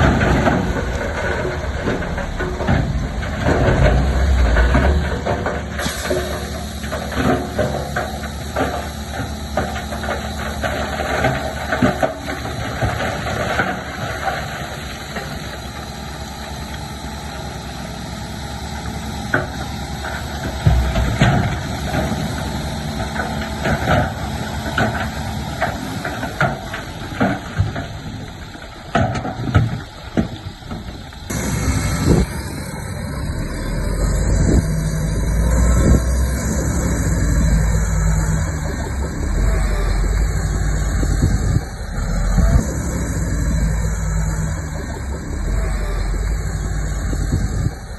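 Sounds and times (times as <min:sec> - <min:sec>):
bulldozer diesel engine: 0:00.0 - 0:47.9
deep rumble: 0:00.0 - 0:47.9.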